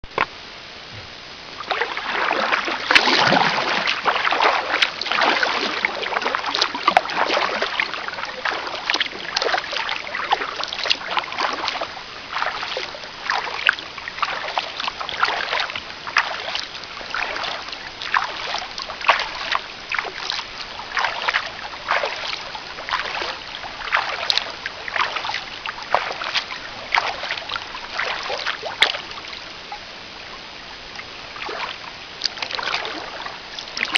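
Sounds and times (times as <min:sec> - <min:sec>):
paddle splashing in water: 0:01.0 - 0:29.8, 0:30.9 - 0:33.9
water dripping: 0:01.6 - 0:29.4, 0:31.0 - 0:33.9.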